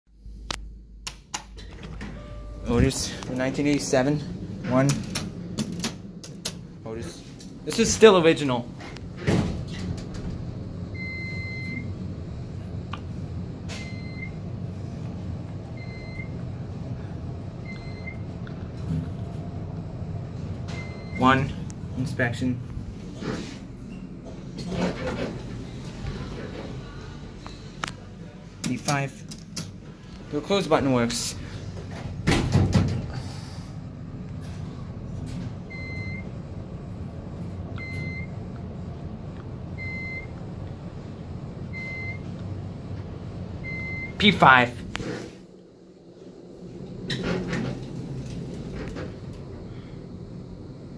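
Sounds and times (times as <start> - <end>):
elevator low rumble: 0.2 - 50.9.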